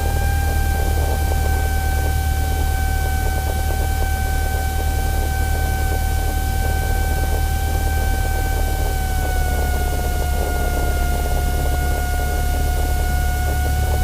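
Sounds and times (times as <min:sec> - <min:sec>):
light airplane engine droning: 0:00.0 - 0:14.0.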